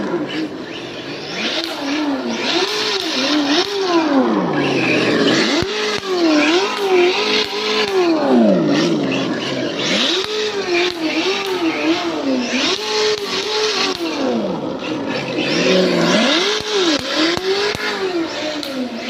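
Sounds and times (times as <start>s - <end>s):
simulated car engine revving: 0.0s - 19.0s.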